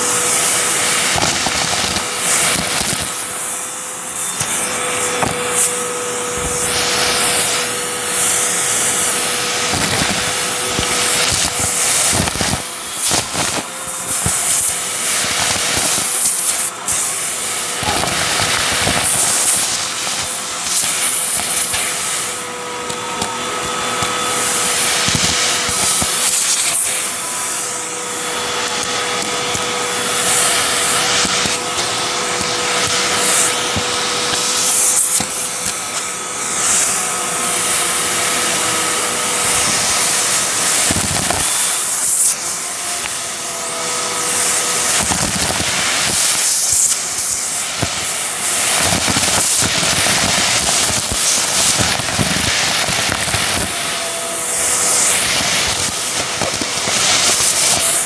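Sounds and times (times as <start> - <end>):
debris rattling up hose: 0.0 - 58.0
vacuum cleaner running: 0.0 - 58.0.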